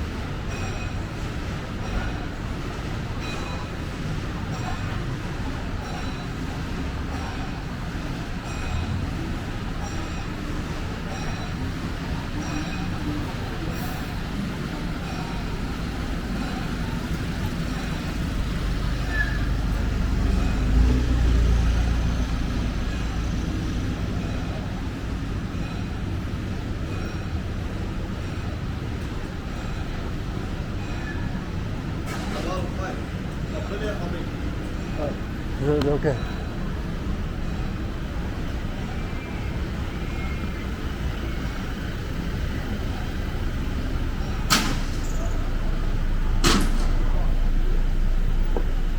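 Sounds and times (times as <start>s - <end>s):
traffic: 0.0s - 48.9s
faint voices: 1.6s - 48.9s.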